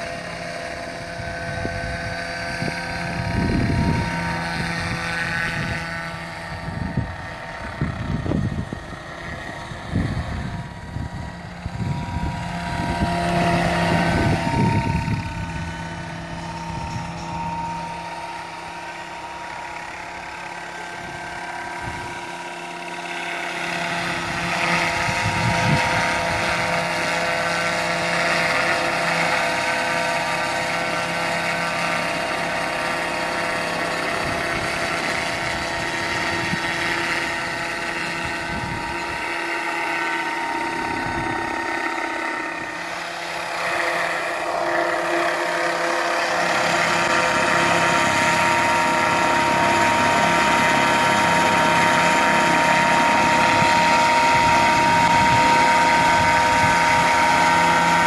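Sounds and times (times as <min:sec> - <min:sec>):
model helicopter rotor whine: 0:00.0 - 0:58.0.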